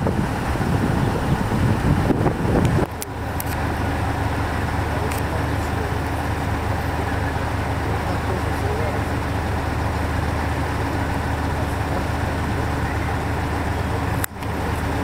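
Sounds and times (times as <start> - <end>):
vehicle engine humming: 0.0 - 15.0
wind buffeting microphone: 0.0 - 15.0.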